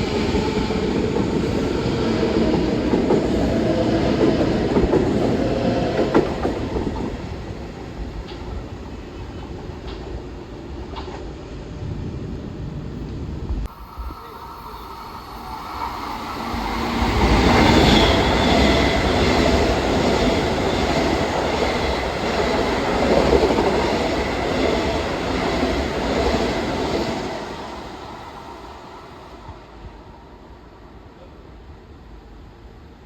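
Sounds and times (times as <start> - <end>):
train passing on rails: 0.0 - 33.0.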